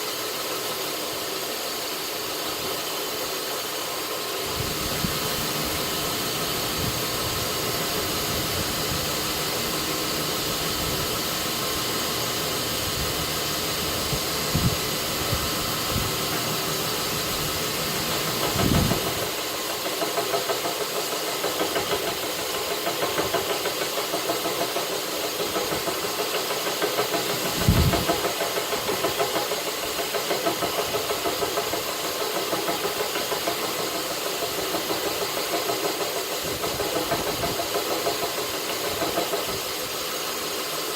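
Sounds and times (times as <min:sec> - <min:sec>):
belt grinder running: 0:00.0 - 0:40.9.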